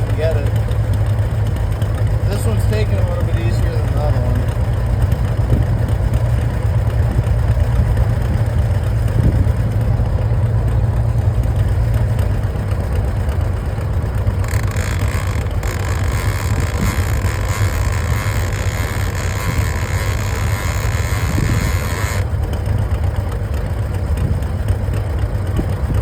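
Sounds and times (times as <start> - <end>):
engine low rumble: 0.0 - 26.0.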